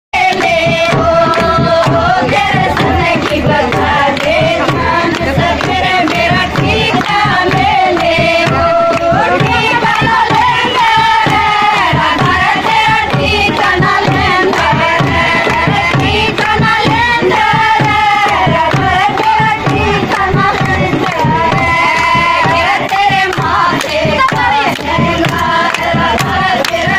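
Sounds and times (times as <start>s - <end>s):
fast hand-drum beat: 0.2s - 26.9s.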